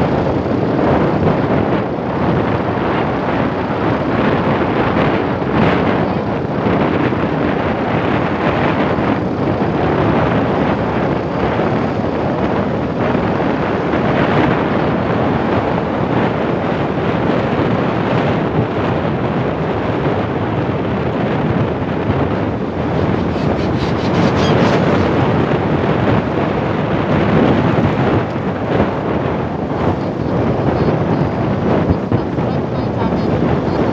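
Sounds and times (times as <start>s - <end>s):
motorcycle running: 0.0s - 33.9s
road noise: 0.0s - 33.9s
wind buffeting microphone: 0.0s - 33.9s.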